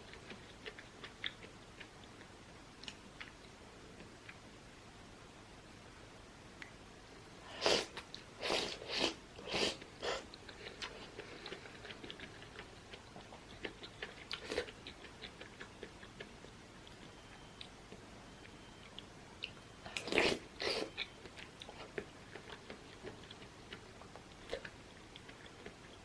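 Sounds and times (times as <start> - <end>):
person chewing wet food: 0.0 - 4.4, 7.6 - 26.0.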